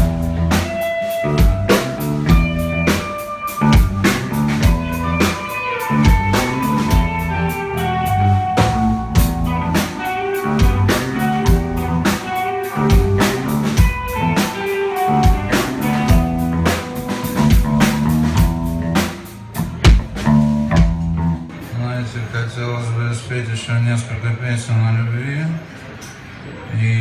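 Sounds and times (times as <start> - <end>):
drum kit beat: 0.0 - 21.7
bass guitar: 0.0 - 21.9
guitar: 0.0 - 23.0.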